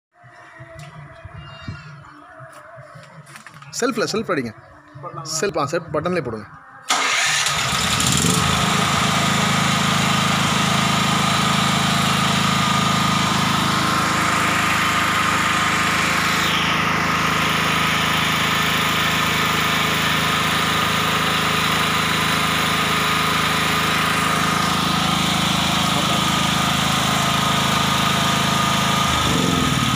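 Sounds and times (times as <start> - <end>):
generator engine running: 2.0 - 29.9.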